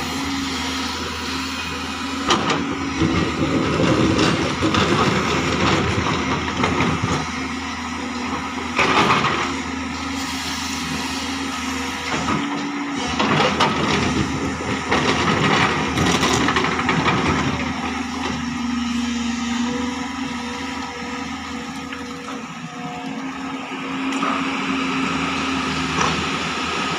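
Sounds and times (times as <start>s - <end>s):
excavator diesel engine under load: 0.0s - 26.9s.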